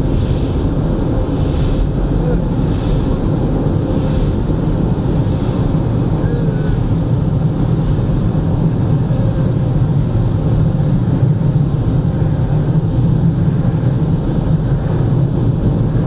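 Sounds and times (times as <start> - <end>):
car engine rumble in cabin: 0.0 - 16.0.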